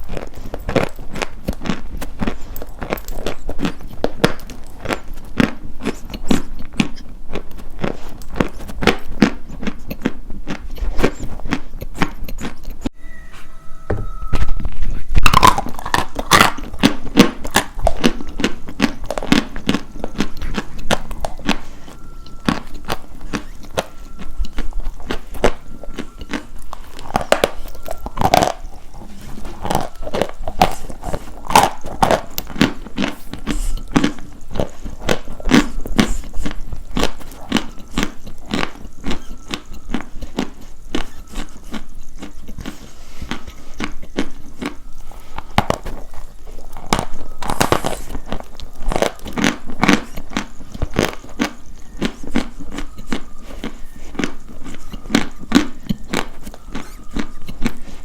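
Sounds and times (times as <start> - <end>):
chalk being chewed: 0.0 - 13.5, 14.6 - 58.0.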